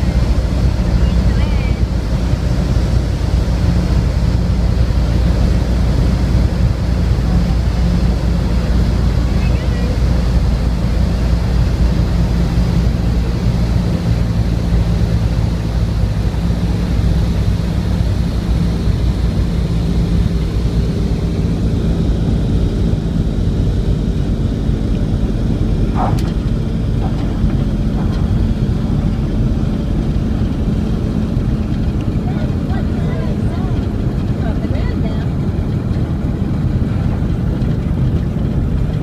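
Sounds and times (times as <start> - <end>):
piston aircraft engines droning: 0.0 - 39.0.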